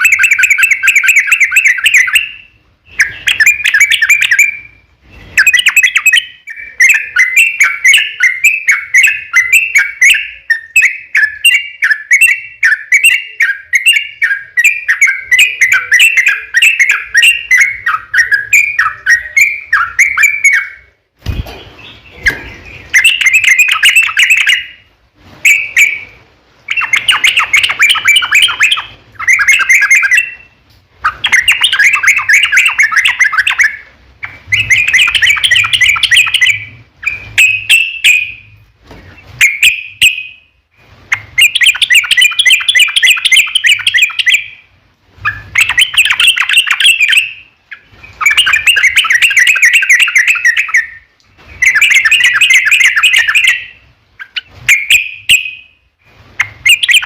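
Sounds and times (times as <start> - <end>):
bird chattering song: 0.0 - 38.6, 41.1 - 55.8, 56.4 - 57.0.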